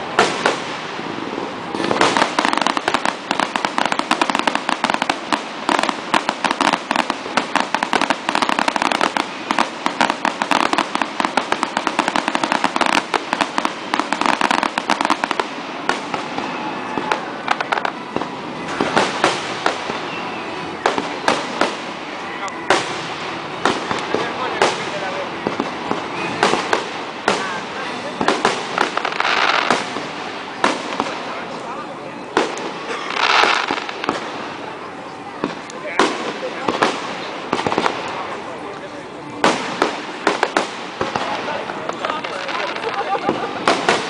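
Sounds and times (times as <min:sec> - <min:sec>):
fireworks bangs and pops: 0:00.0 - 0:44.0.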